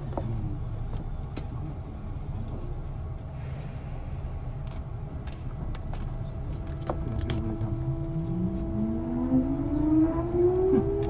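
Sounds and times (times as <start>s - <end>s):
train rumbling from inside car: 0.0s - 11.0s.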